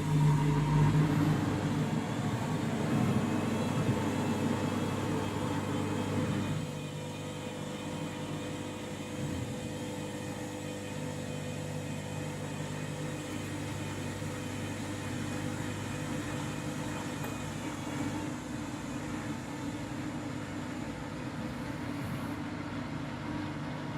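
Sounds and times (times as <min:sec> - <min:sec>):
washing machine spinning: 0:00.0 - 0:23.9.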